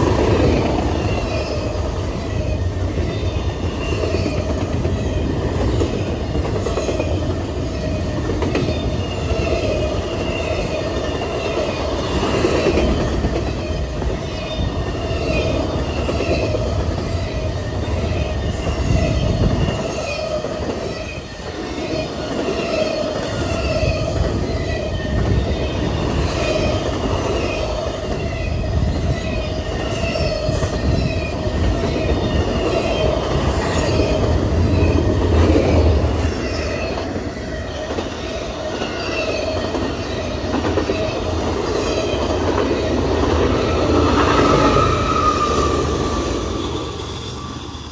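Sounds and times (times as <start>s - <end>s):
heavy rumble of wheels on rail: 0.0s - 47.9s.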